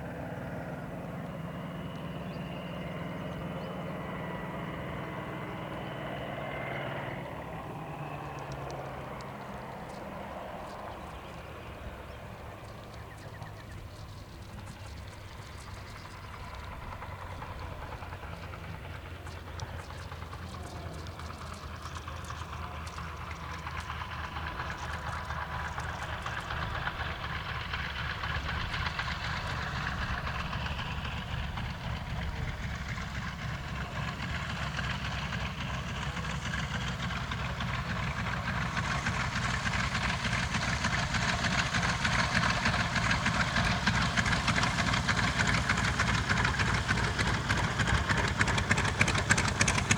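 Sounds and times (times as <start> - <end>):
radial aircraft engine running: 0.0 - 49.9.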